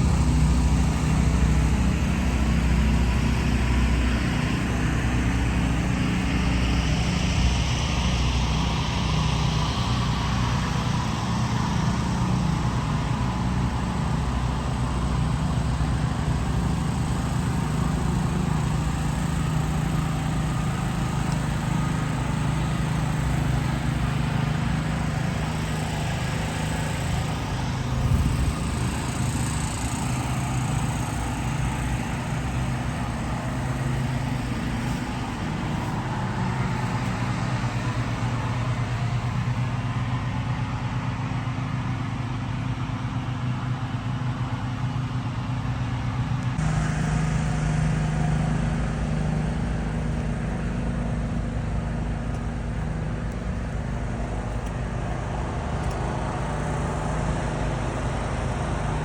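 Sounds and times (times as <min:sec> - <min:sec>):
road noise hiss: 0:00.0 - 0:59.0
vehicle engine drone: 0:00.0 - 0:59.0.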